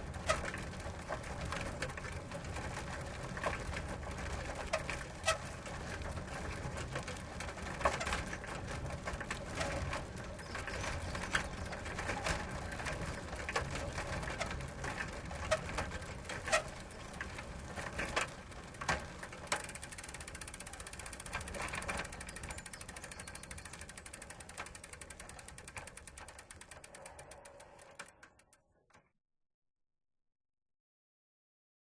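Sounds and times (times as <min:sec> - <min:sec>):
freewheel hub ticking: 0:00.0 - 0:28.7
bicycle chain and frame rattling: 0:00.0 - 0:28.8.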